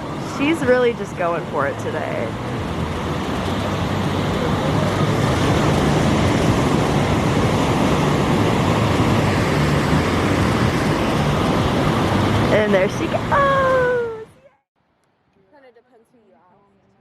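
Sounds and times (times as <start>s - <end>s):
ocean surf breaking: 0.0s - 14.1s.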